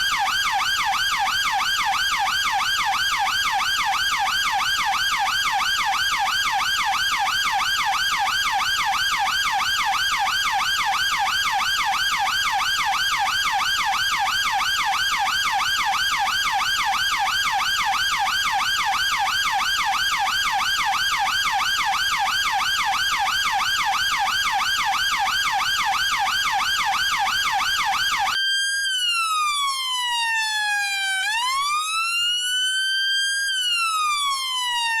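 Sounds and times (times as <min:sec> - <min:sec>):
police siren yelp and wail: 0:00.0 - 0:35.0.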